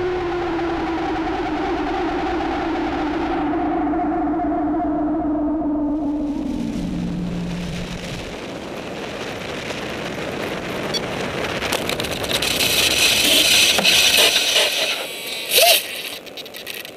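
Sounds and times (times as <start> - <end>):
wind rushing over microphone: 0.0 - 16.8.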